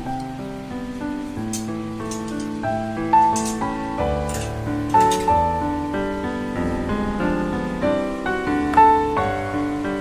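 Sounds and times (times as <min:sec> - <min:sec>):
slow gentle melody: 0:00.0 - 0:10.0.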